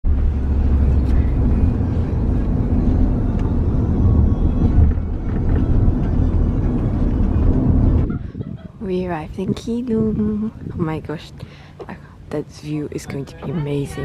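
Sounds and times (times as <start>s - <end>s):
car interior rumble: 0.1s - 14.0s.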